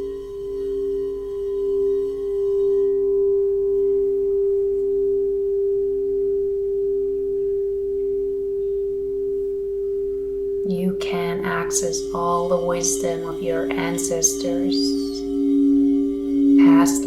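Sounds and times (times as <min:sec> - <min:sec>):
singing bowl tone: 0:00.0 - 0:17.0.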